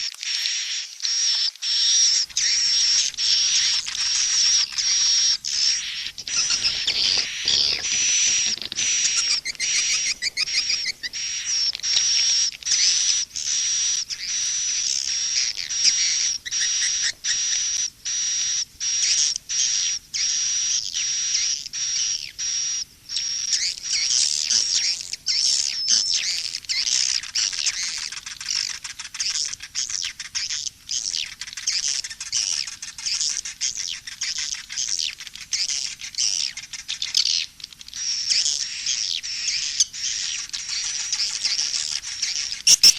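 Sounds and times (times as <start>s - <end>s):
rapid high chirping and twittering: 0.1s - 42.9s.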